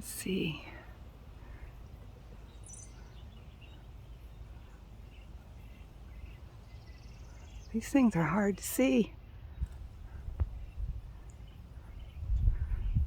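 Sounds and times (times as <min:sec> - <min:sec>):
distant birds chirping: 0:00.0 - 0:13.0
low rumble of wind: 0:00.0 - 0:13.0.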